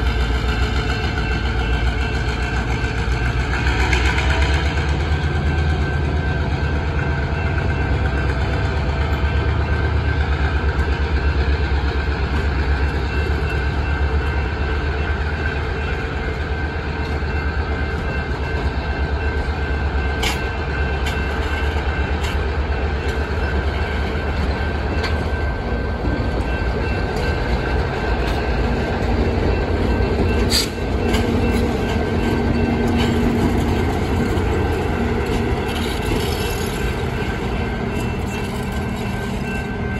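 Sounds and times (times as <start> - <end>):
diesel locomotive hum: 0.0 - 39.9
rail joint clacks: 0.0 - 39.9
train wheels rumbling on rail: 0.0 - 39.9.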